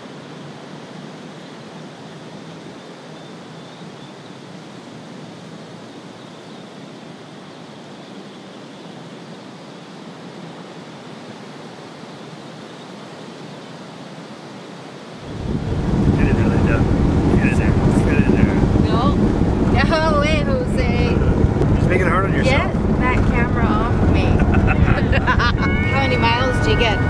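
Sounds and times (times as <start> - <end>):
wind through tall grass: 0.0 - 27.0.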